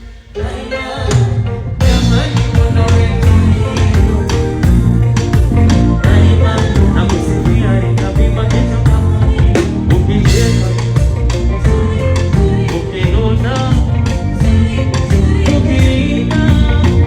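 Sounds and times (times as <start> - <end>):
heavy bass: 0.0 - 17.0
live band playing: 0.0 - 17.0
steady drum beat: 0.0 - 17.0.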